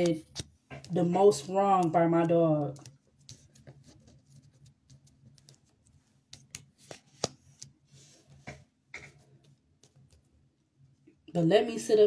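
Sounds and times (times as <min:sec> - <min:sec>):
cards being shuffled: 0:00.0 - 0:10.3.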